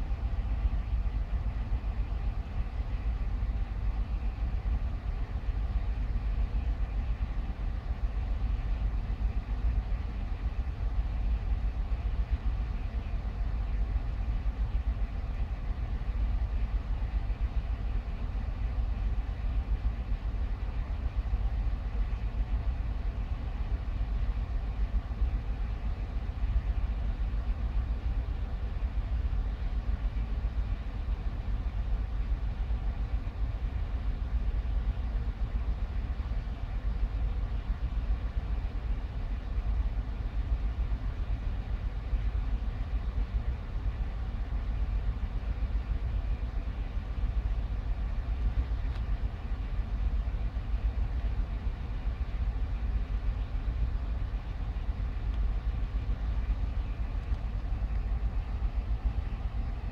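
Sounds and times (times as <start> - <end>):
low mechanical rumble with hum: 0.0 - 59.9.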